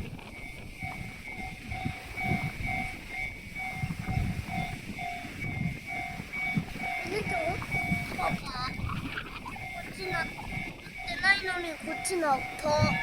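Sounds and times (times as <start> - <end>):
freight train rumbling: 0.0 - 13.0
level-crossing alarm ringing: 0.0 - 13.0.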